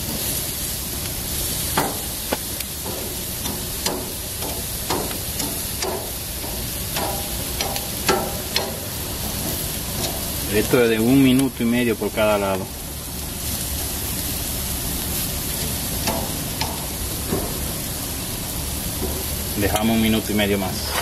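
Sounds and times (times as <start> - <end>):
vegetables sizzling on a grill: 0.0 - 21.0.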